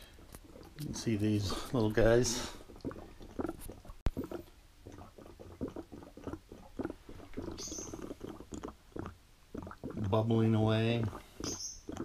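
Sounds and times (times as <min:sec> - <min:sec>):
airlocks bubbling: 0:00.0 - 0:12.0.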